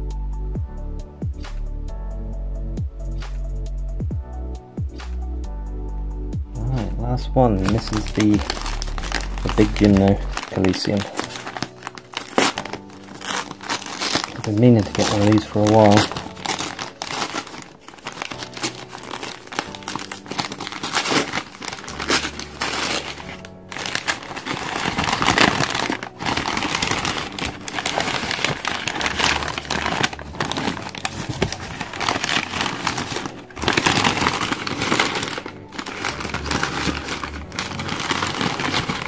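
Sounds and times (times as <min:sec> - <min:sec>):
newspaper crinkling and tearing: 0:06.8 - 0:39.0.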